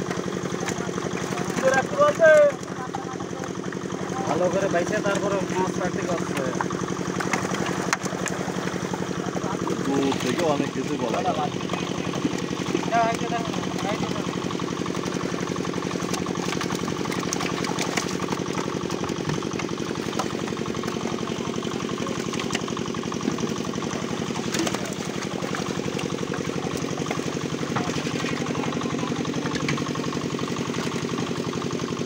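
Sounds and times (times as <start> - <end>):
engine running steadily: 0.0 - 32.0
fish splashing in shallow water: 0.0 - 32.0.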